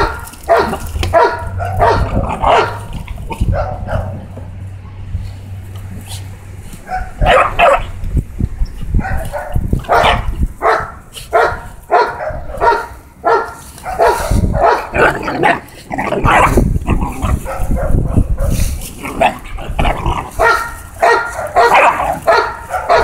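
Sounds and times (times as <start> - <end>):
puppies barking: 0.0 - 4.7, 6.7 - 8.2, 8.8 - 23.0.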